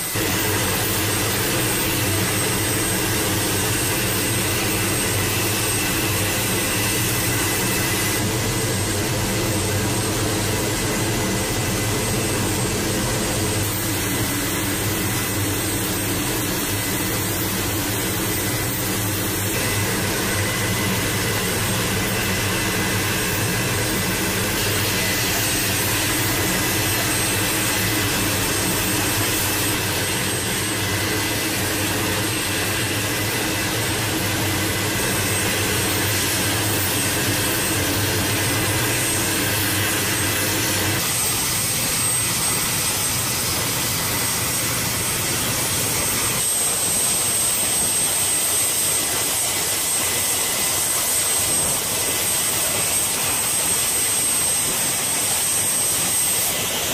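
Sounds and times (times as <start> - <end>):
low rotor drone: 0.0 - 56.9
turbine engine whine: 0.0 - 56.9.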